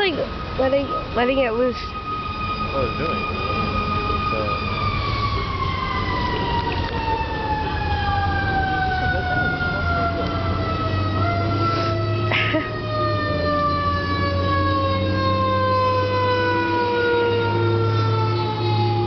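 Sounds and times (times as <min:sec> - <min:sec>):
siren-like falling tone: 0:00.0 - 0:19.0.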